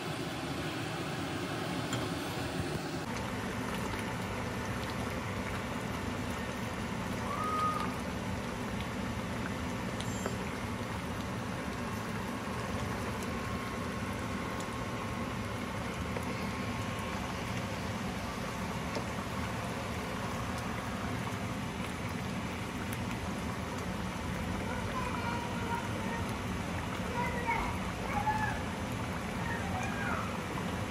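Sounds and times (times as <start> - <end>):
stew bubbling in a pan: 0.0 - 30.9.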